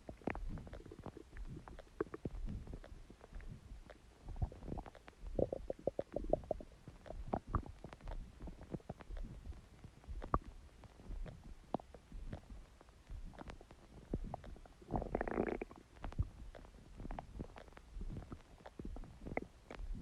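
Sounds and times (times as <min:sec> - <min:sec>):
stomach growling and gurgling: 0:00.0 - 0:20.0.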